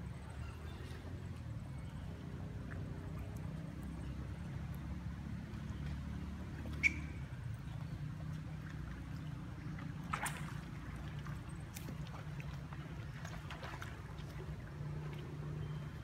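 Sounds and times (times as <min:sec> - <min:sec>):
monkeys splashing in water: 0:02.0 - 0:16.0.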